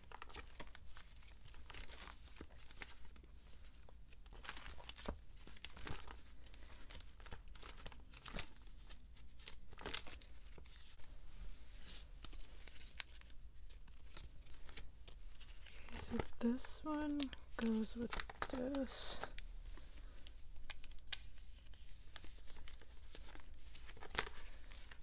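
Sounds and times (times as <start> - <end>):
plastic sleeves rustling and crinkling: 0.0 - 25.0.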